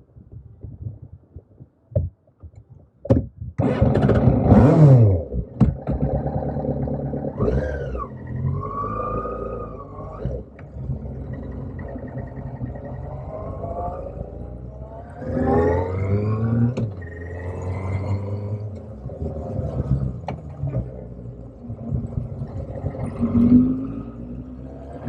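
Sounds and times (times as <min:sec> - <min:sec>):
motorcycle engine starting and revving: 0:03.6 - 0:25.0.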